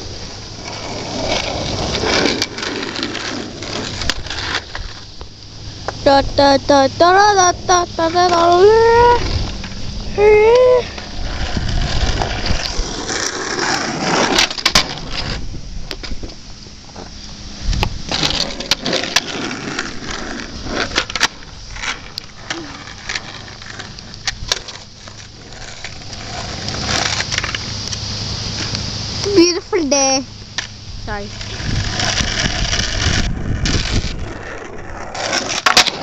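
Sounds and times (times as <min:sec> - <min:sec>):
skateboard wheels rolling on asphalt: 0:00.0 - 0:36.0.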